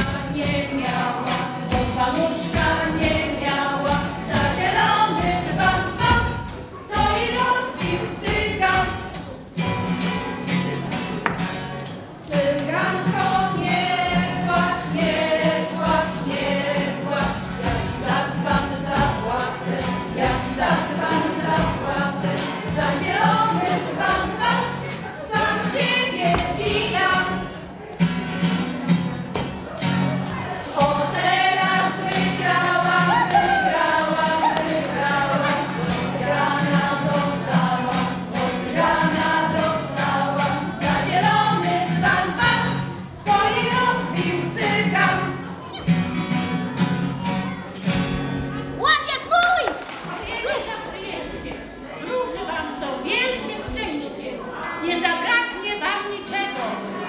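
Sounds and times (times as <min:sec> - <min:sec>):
women's chorus singing folk song: 0:00.0 - 0:48.4
jingling tambourine percussion: 0:00.0 - 0:49.1.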